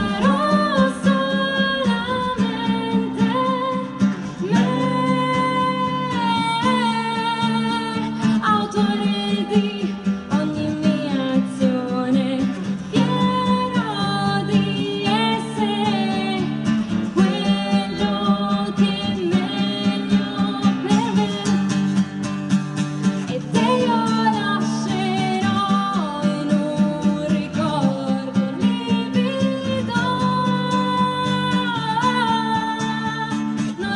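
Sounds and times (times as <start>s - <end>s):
woman singing: 0.0s - 21.8s, 23.3s - 33.9s
strummed acoustic guitar: 0.0s - 33.9s.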